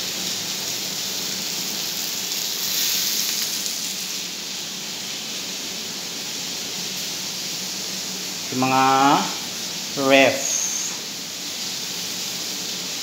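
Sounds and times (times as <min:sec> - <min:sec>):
chicken sizzling on steel plate: 0:00.0 - 0:13.0.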